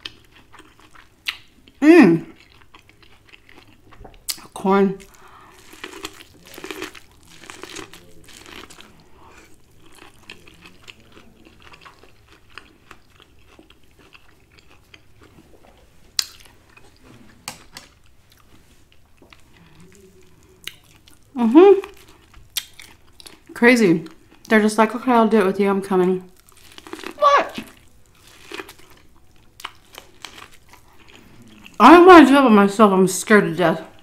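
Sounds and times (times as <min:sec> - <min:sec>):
person chewing: 0:00.0 - 0:24.5, 0:26.3 - 0:31.9.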